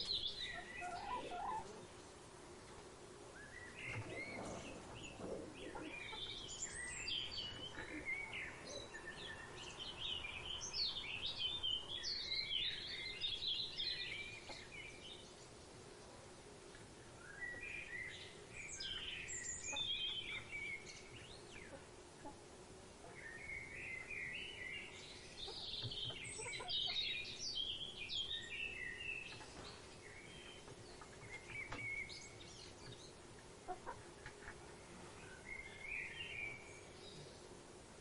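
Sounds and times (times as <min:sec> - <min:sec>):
birds chirping and calling: 0:00.0 - 0:02.0, 0:03.4 - 0:15.5, 0:17.4 - 0:22.4, 0:23.0 - 0:37.5
faint steady hum: 0:00.0 - 0:38.0.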